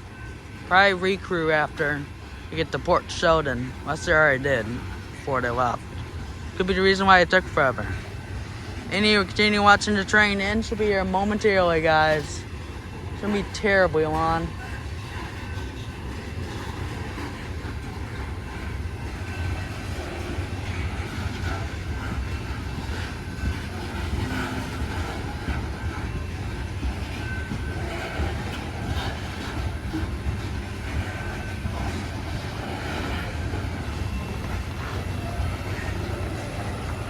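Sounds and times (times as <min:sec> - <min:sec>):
freight train rumbling past: 0:00.0 - 0:37.0
wheels clicking over rails: 0:00.0 - 0:37.0.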